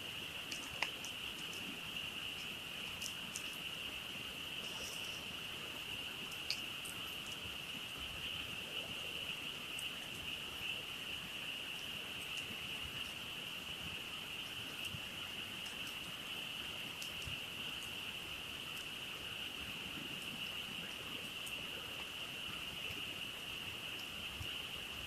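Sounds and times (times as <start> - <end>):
campfire crackles: 0.0 - 25.0
frogs trilling in chorus: 0.0 - 25.0.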